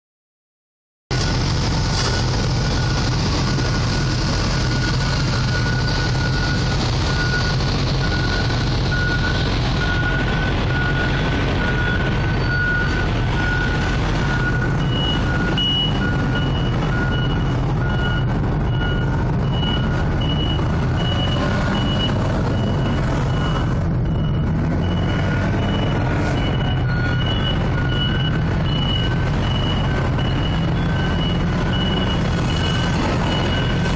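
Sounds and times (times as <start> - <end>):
low engine drone: 1.1 - 33.9
higher-pitched reversing beep: 1.2 - 33.9
reversing alarm beeping: 1.2 - 33.9.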